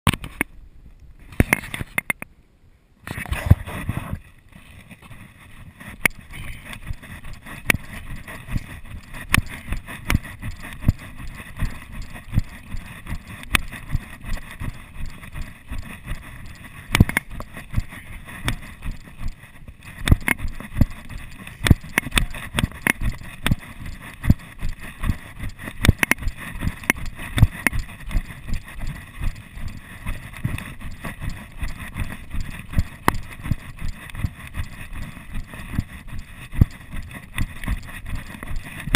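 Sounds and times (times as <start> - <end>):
camera movement rumble: 0.1 - 2.3, 3.0 - 38.9
footsteps on gravel trail: 4.5 - 38.9.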